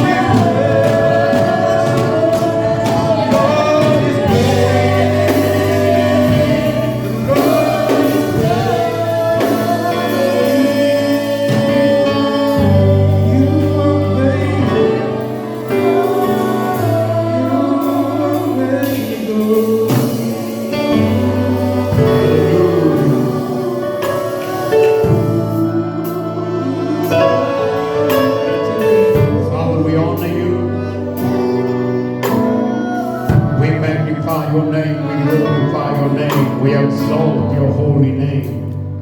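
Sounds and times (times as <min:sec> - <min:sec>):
choir singing gospel song: 0:00.0 - 0:39.0
instrumental backing with bass: 0:00.0 - 0:39.0.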